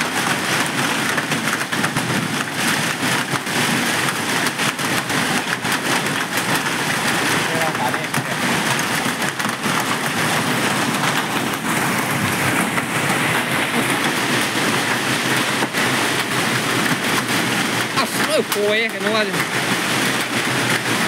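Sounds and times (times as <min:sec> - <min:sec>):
heavy hail clattering: 0:00.0 - 0:21.0.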